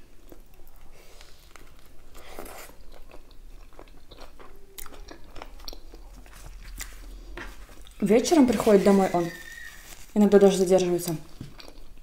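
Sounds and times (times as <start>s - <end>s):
woman chewing food: 0.0s - 10.2s, 11.2s - 12.0s.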